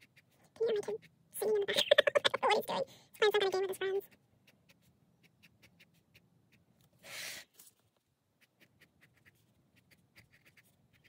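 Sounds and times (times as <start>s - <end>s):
pen scratching on paper: 0.0s - 6.7s, 8.4s - 11.0s.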